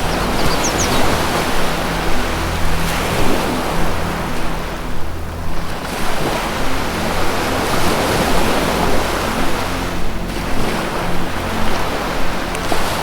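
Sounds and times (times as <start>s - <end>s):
low music drone: 0.0s - 13.0s
ocean surf washing: 0.0s - 13.0s.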